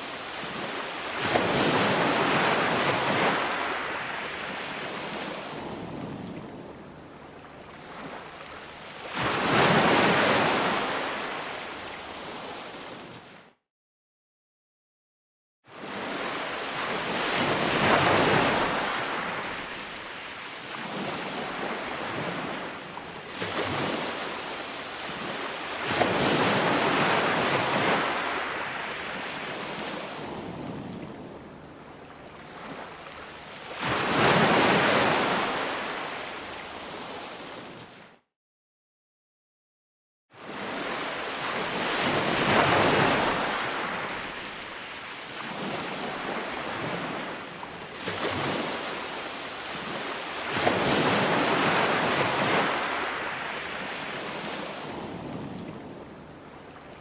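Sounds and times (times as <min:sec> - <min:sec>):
ocean waves breaking: 0:00.0 - 0:13.4, 0:15.7 - 0:38.1, 0:40.4 - 0:57.0.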